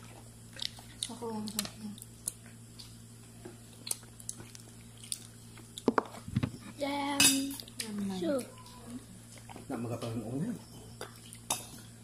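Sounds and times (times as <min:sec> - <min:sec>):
child chewing food: 0:00.0 - 0:06.8, 0:07.5 - 0:12.0
faint steady hum: 0:00.0 - 0:12.0.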